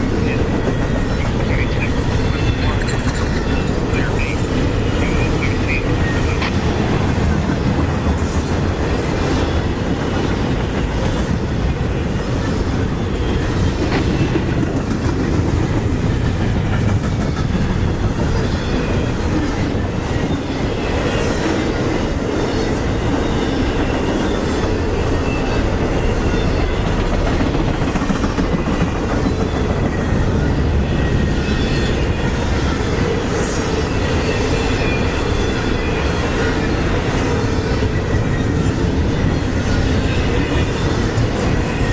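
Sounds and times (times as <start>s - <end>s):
train wheels clattering on rail: 0.0s - 41.9s.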